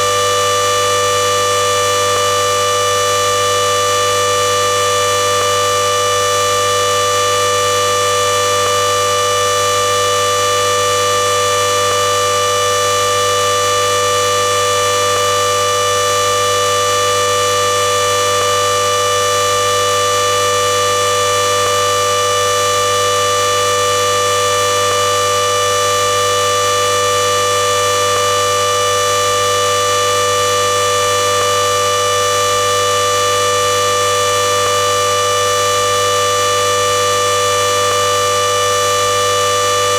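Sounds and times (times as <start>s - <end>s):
washing machine spin whine: 0.0s - 39.9s.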